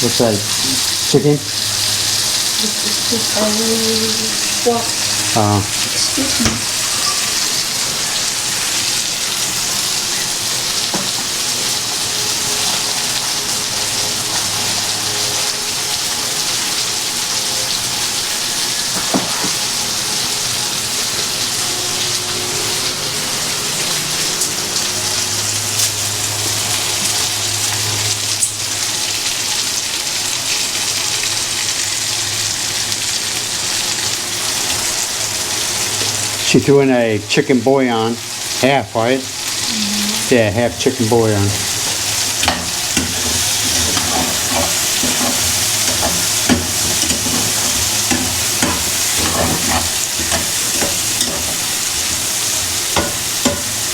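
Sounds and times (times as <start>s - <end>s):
meat sizzling in a pan: 0.0s - 53.9s.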